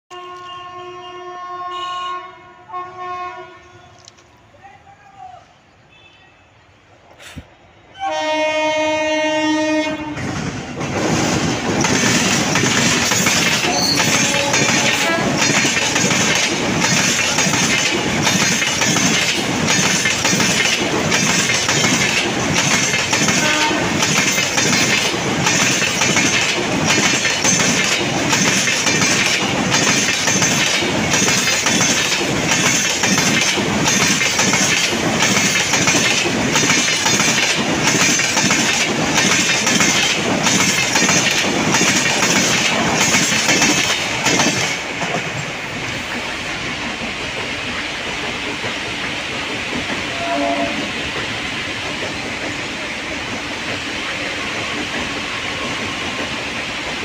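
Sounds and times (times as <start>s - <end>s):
train wheels clickety-clack on rails: 7.1s - 57.0s.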